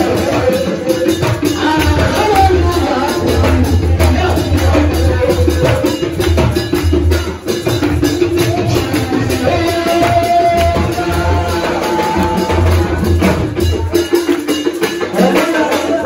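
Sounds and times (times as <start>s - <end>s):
crowd singing together: 0.0s - 16.0s
drums: 0.0s - 16.0s
hand clapping: 0.0s - 16.0s
shaker percussion: 0.0s - 16.0s.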